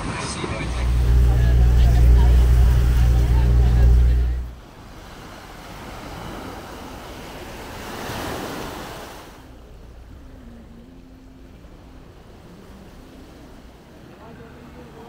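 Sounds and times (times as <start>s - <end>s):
small waves washing onto shore: 0.0s - 15.0s.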